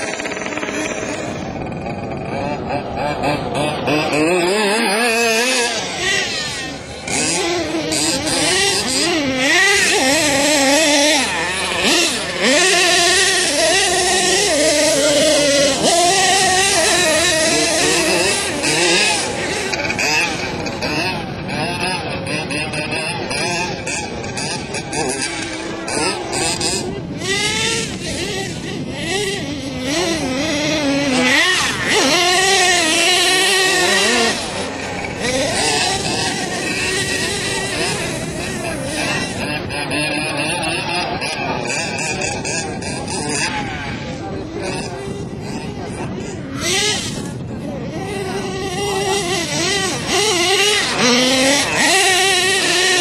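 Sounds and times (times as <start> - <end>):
model truck engine revving: 0.0 - 53.0.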